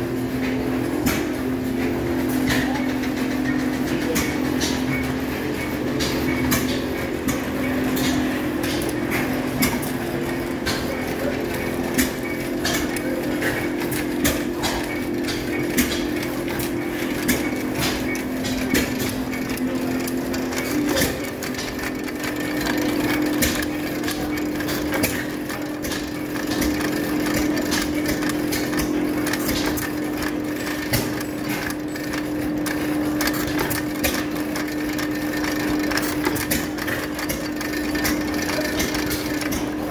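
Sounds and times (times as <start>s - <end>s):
gas engines popping and clattering: 0.0s - 39.9s.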